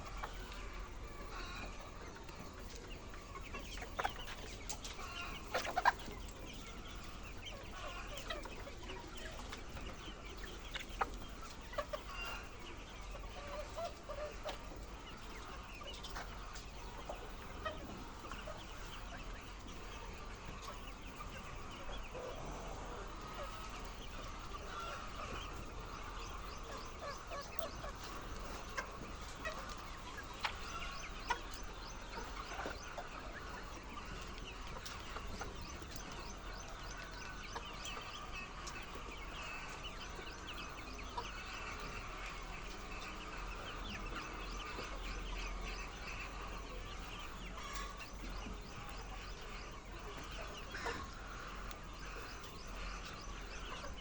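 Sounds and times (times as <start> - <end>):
hens clucking: 0.0 - 54.0.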